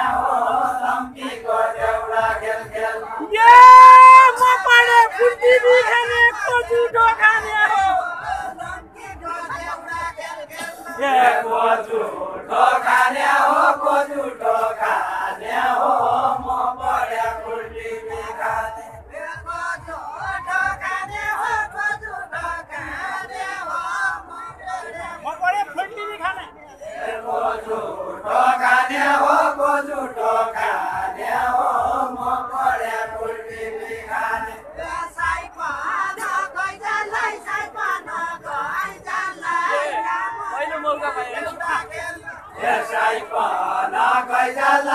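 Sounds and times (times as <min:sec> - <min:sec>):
group of men singing: 0:00.0 - 0:25.4, 0:26.8 - 0:44.9.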